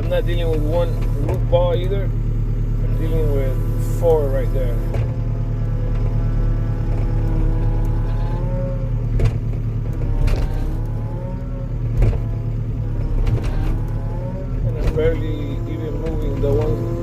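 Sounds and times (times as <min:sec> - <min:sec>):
diesel engine under load: 0:00.0 - 0:17.0
hydraulic whine: 0:00.0 - 0:17.0.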